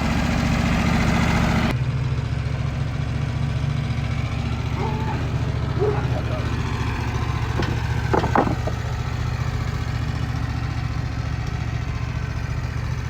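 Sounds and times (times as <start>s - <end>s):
sawmill engine idling: 0.0s - 13.0s.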